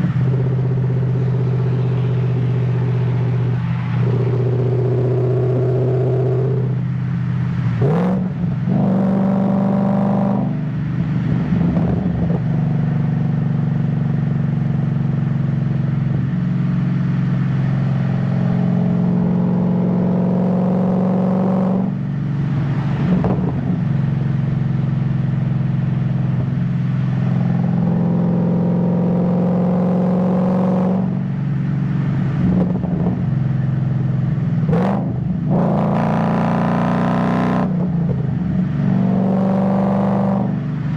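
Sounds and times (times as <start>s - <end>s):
car engine cruising: 0.0s - 40.9s.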